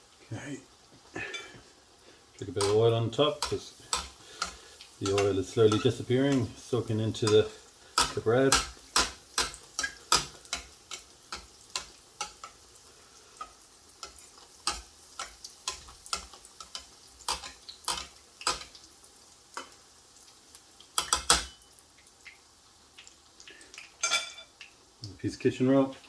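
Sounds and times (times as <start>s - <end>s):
faint frying sizzle: 0.0s - 26.0s
oil popping and crackling: 0.4s - 26.0s.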